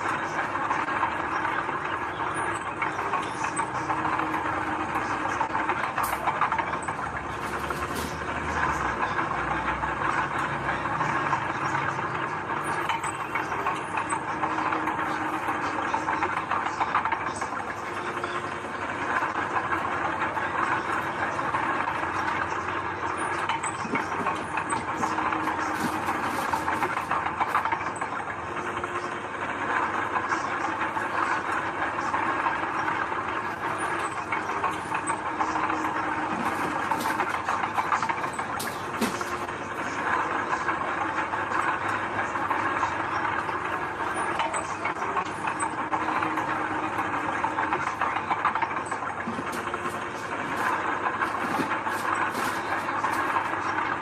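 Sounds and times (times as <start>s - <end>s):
heavy diesel engine under load: 0.0s - 54.0s
steel tracks clanking and rattling: 0.0s - 54.0s.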